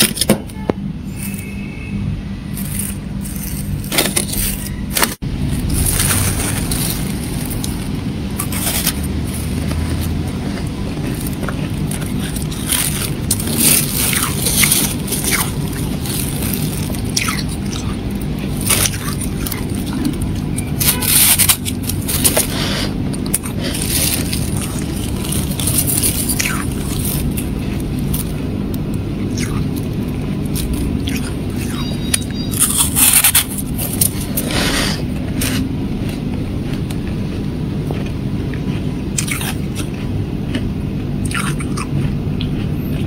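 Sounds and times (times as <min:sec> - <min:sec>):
steady low hum: 0:00.0 - 0:43.0
fingers scraping freezer frost: 0:02.5 - 0:37.4.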